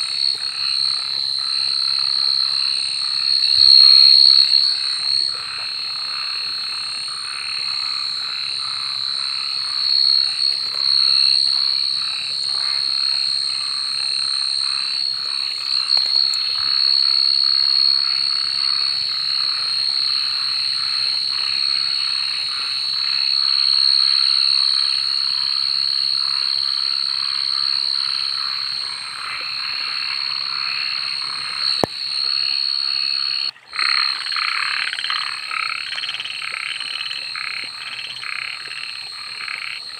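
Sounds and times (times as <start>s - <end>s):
frogs croaking: 0.0s - 39.9s
high-pitched frog trill: 0.0s - 39.9s.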